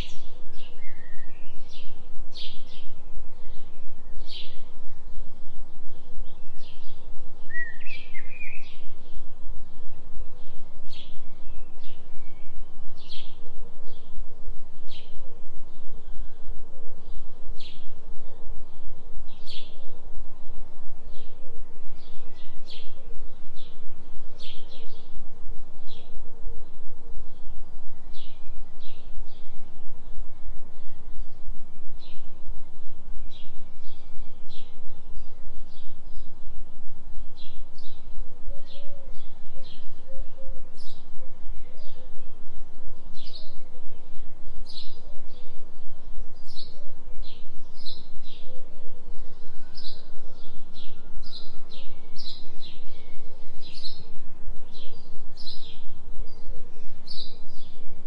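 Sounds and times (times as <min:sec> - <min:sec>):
low pulsing binaural tone: 0:00.0 - 0:58.0.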